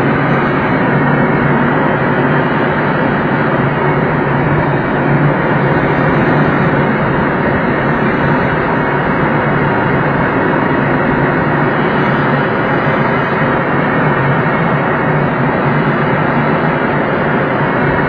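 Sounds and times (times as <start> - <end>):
airflow rushing around cockpit: 0.0 - 18.0
airplane engine drone: 0.0 - 18.0.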